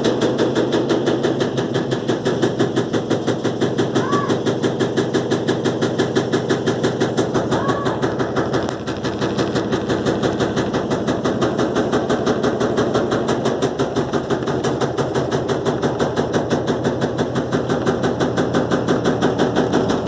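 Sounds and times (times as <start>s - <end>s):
washing machine knocking on spin: 0.0s - 20.0s.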